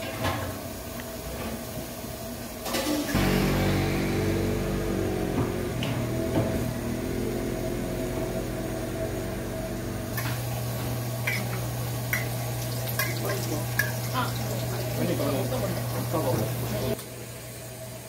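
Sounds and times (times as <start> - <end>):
low machine hum: 3.2 - 18.0.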